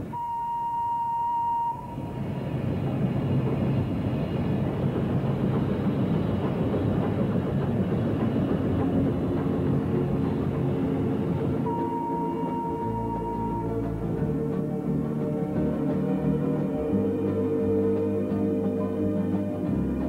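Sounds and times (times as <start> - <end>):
steam locomotive running: 0.0 - 20.0.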